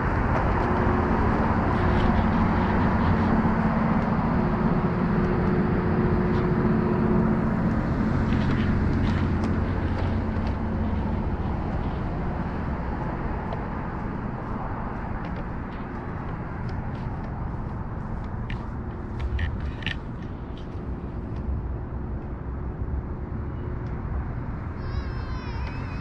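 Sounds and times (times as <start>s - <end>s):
low mechanical motor hum: 0.0s - 26.0s
traffic noise: 0.0s - 26.0s.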